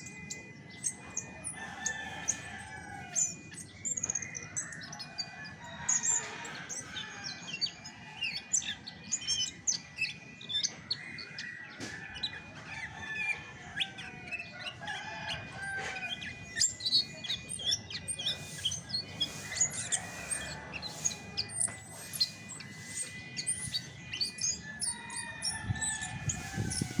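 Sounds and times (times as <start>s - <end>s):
thrush singing: 4.8s - 27.0s.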